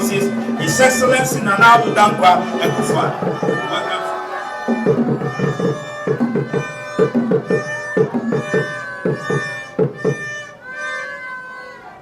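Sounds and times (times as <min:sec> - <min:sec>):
quick steady drum beat: 0:00.0 - 0:10.2
wind instruments holding notes: 0:00.0 - 0:12.0.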